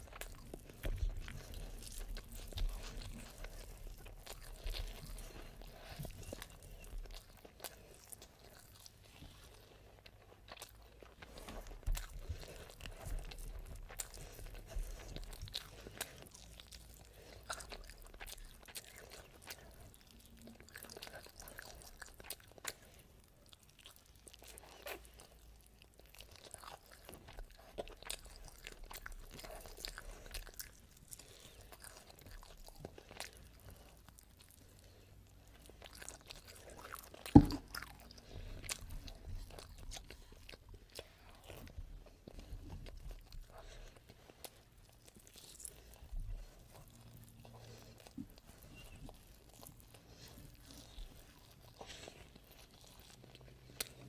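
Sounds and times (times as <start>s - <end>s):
wet mouth chewing: 0.0s - 54.0s.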